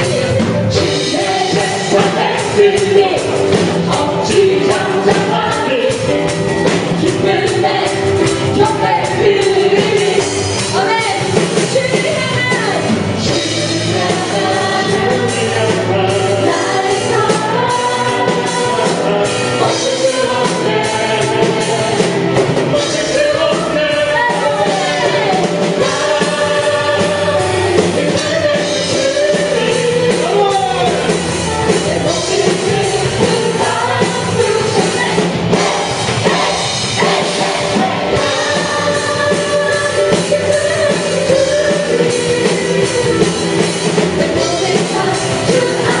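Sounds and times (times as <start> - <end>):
singers with full band: 0.0 - 46.0.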